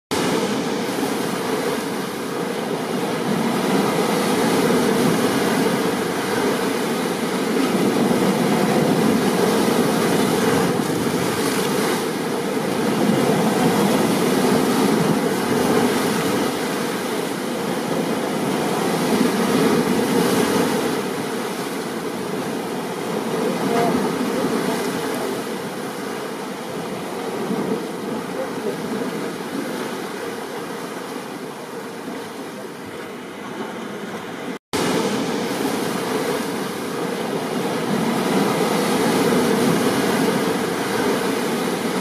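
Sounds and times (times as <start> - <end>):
ocean surf: 0.1 - 42.0.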